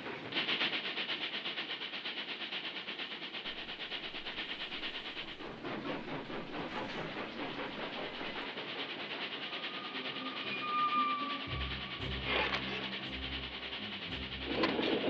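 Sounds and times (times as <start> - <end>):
steam train running: 0.0 - 15.0.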